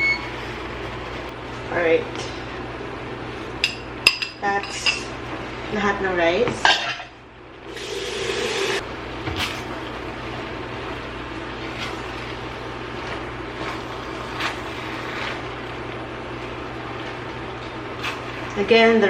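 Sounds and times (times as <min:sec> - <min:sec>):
steady hiss and low hum: 0:00.0 - 0:19.0.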